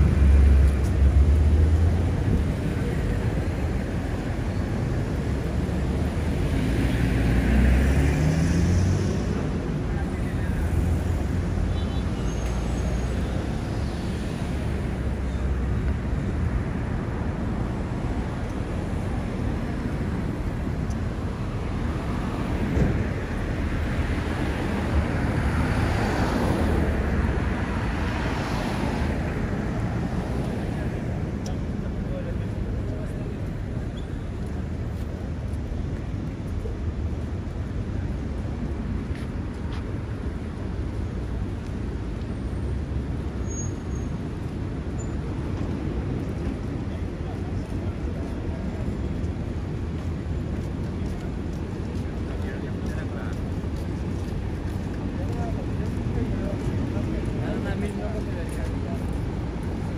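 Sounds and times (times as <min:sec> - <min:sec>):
cars passing on road: 0:00.0 - 0:59.9.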